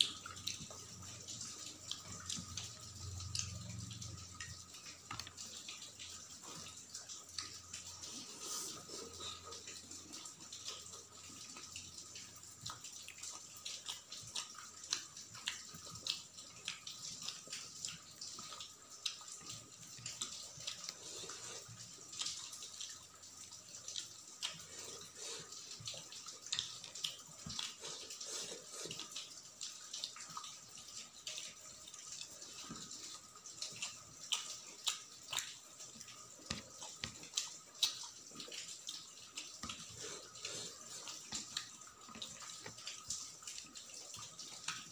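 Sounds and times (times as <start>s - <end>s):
wet chewing and mouth smacks: 0.0s - 23.0s, 23.8s - 44.9s.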